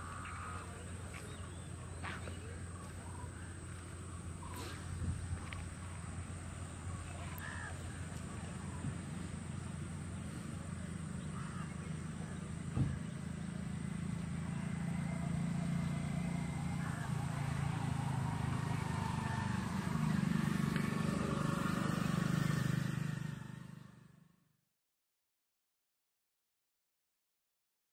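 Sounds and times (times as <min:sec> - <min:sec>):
faint voices: 0:00.0 - 0:22.9
vehicle engine hum: 0:00.0 - 0:24.6.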